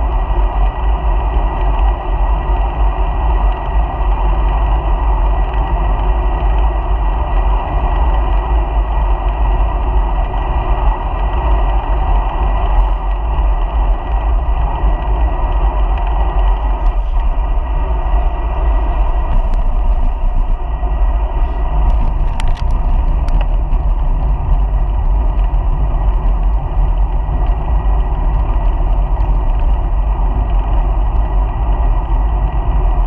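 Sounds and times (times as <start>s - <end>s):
bicycle tyre noise: 0.0s - 33.0s
wind rumble on microphone: 0.0s - 33.0s.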